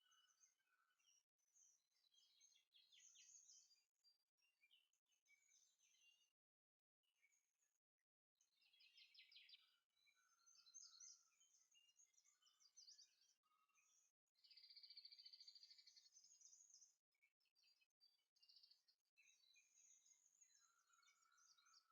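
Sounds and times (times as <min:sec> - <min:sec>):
faint birdsong with trills: 0:00.0 - 0:21.9.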